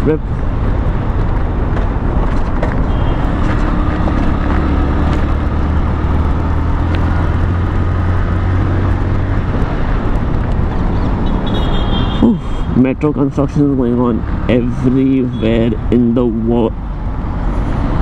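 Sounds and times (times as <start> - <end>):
heavy wind noise: 0.0 - 18.0
motorcycle engine humming: 0.0 - 18.0.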